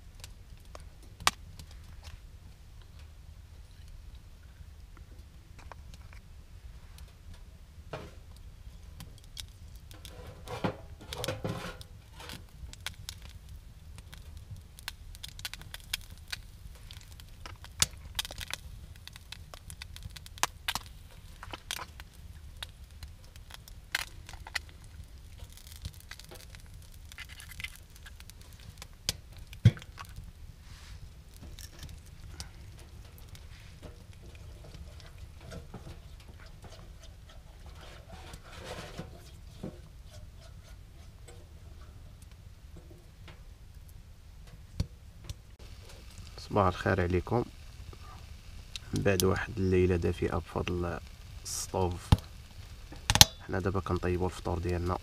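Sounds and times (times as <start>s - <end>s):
low steady rumble: 0.0s - 55.0s
eggs frying in oil: 7.0s - 55.0s.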